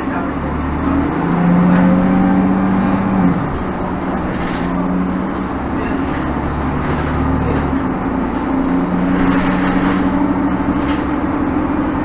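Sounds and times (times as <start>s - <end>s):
bus engine and drivetrain: 0.0s - 12.0s
road noise: 0.0s - 12.0s.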